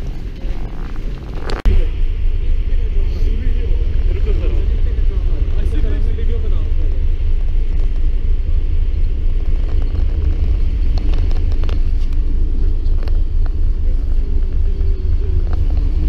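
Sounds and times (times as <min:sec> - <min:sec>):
ferry low rumble: 0:00.0 - 0:16.0
wind buffeting microphone: 0:00.0 - 0:16.0.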